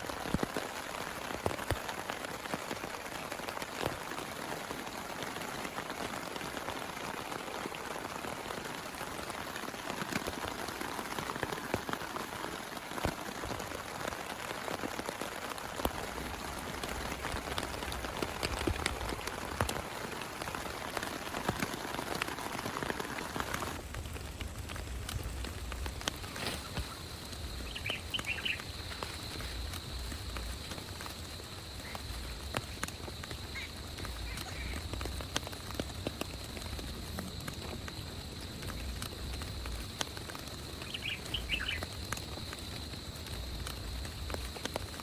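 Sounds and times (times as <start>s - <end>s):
heavy rain: 0.0s - 45.0s
sharp raindrop hits: 0.0s - 45.0s.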